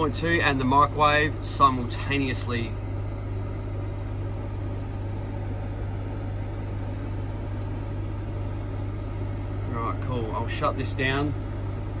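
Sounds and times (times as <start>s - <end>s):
air conditioner hum: 0.0s - 12.0s
microwave oven running: 0.0s - 12.0s.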